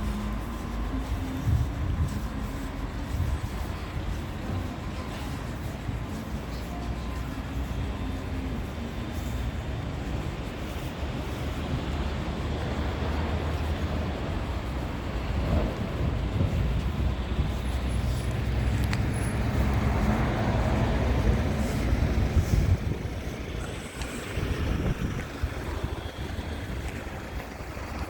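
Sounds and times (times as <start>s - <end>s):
freight train rumbling past: 0.0s - 28.0s
wind noise on microphone: 0.0s - 28.0s.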